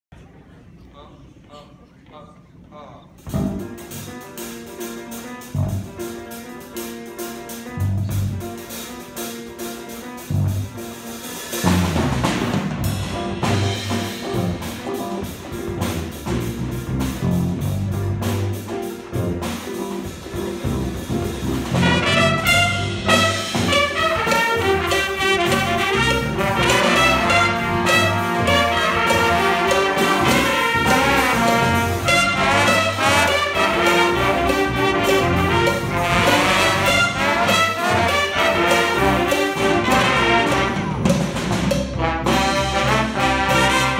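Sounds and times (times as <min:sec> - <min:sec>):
guitar bass and drum groove: 0:03.2 - 0:43.6
horn section playing: 0:03.3 - 0:43.9.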